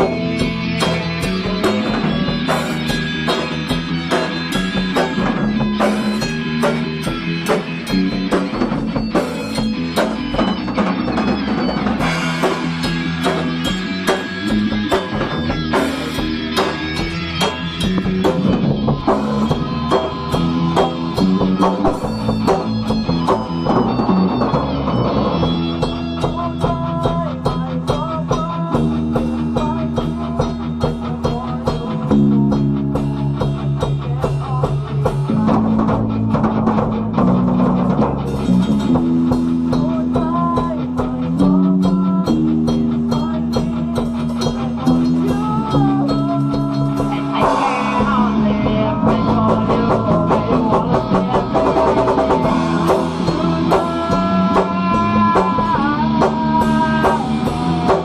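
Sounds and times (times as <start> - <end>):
drum kit beat: 0.0 - 58.0
guitars: 0.0 - 58.0.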